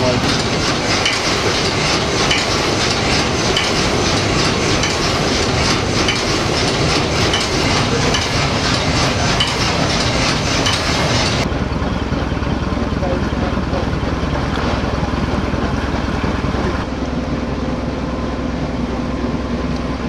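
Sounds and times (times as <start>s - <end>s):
steam engine clattering: 0.0s - 20.0s.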